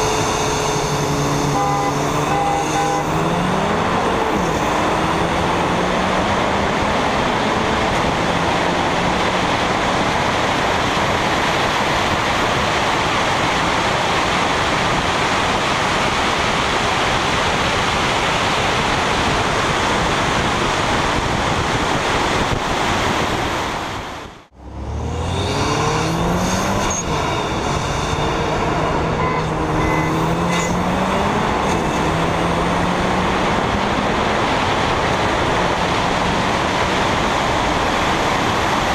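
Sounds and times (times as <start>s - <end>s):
car engines accelerating hard: 0.0s - 38.9s
wind and road noise: 0.0s - 38.9s.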